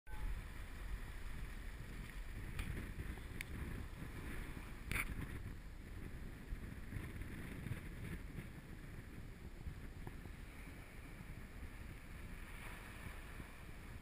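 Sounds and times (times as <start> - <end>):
muffled wind and surf rumble: 0.1 - 14.0.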